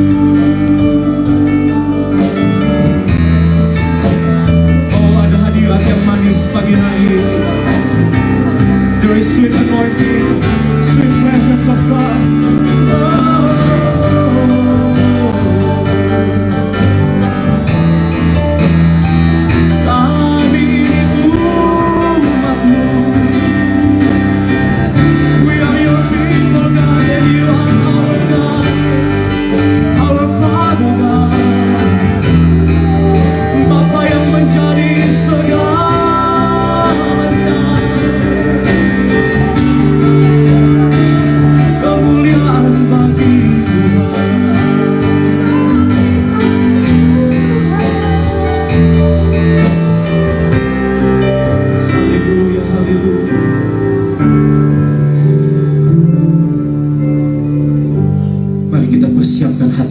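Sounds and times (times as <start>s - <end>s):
praise team singing: 0.0s - 17.0s, 19.8s - 53.2s
instrumental accompaniment: 0.0s - 59.9s.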